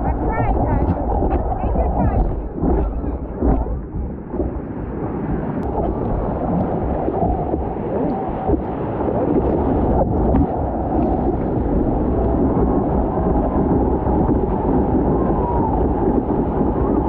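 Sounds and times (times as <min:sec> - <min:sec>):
surf rushing: 0:00.0 - 0:17.0
wind on camera: 0:00.0 - 0:17.0.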